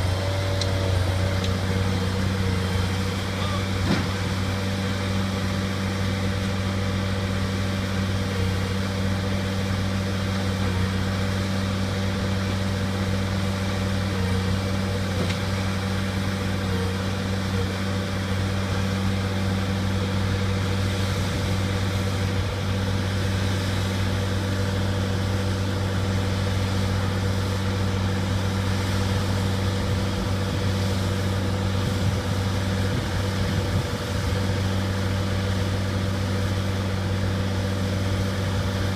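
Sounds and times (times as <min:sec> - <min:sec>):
loader engine low hum: 0:00.0 - 0:38.9.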